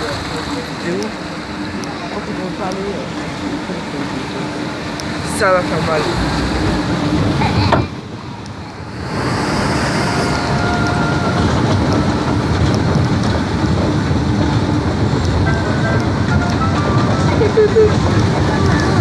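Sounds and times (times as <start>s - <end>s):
water rushing down flume: 0.0s - 19.0s.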